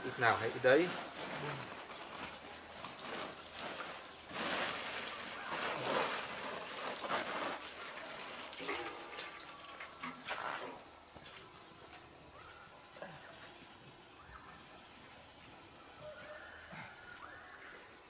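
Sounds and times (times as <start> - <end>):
water sprinkling from watering can: 0.0 - 16.0.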